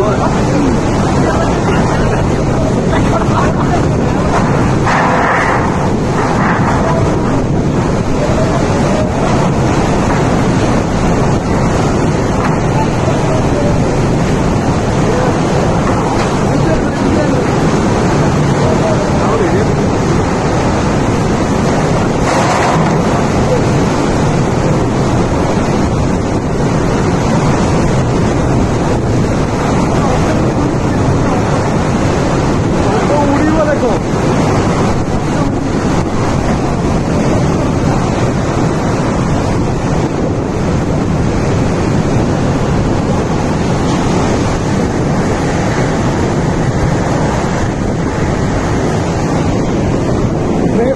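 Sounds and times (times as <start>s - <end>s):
strong wind on microphone: 0.0s - 50.9s.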